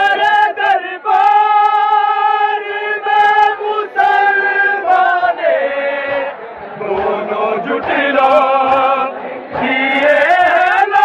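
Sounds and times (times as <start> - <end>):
voices chanting in unison: 0.0 - 11.0.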